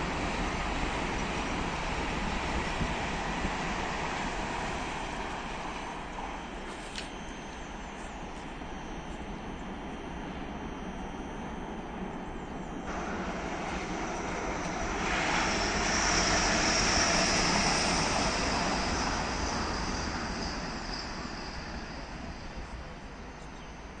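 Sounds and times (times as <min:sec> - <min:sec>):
high steady whine: 0:00.0 - 0:24.0.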